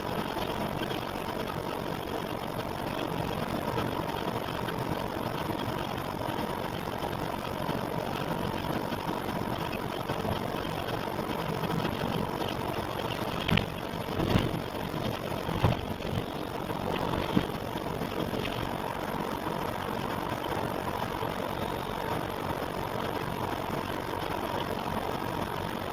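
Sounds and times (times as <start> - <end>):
motor running with whine: 0.0 - 25.9.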